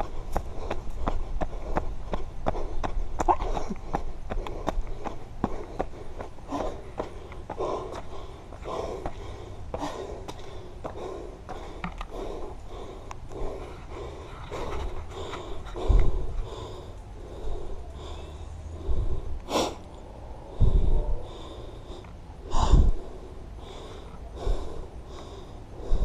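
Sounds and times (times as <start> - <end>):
man breathing hard: 0.0 - 26.0.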